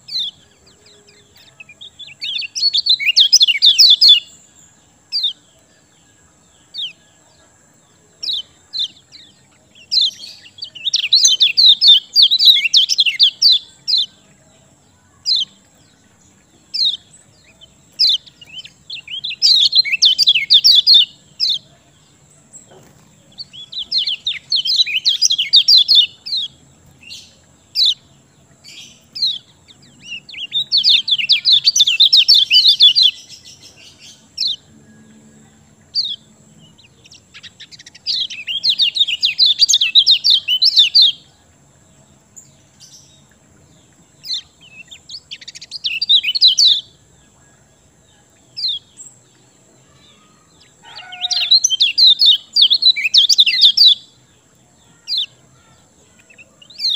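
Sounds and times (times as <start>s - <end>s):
sharp bird chirps: 0.0s - 7.5s, 8.1s - 41.4s, 42.3s - 47.6s, 48.2s - 56.9s
songbird chirping trills: 0.0s - 56.9s.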